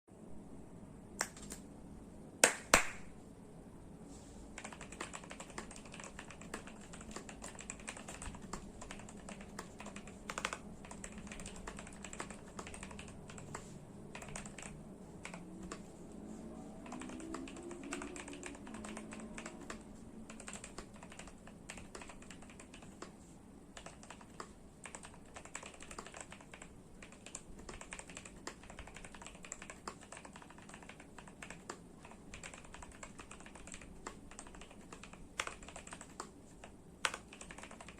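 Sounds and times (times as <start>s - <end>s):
mechanical keyboard typing: 4.6s - 15.9s, 16.8s - 23.1s, 23.7s - 37.9s.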